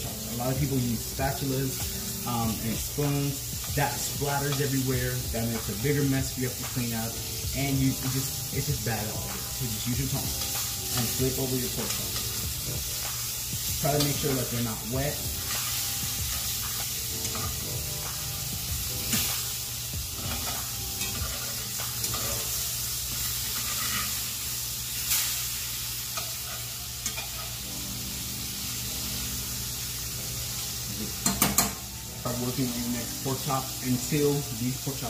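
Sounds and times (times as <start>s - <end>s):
pork chops sizzling in oil: 0.0s - 35.0s.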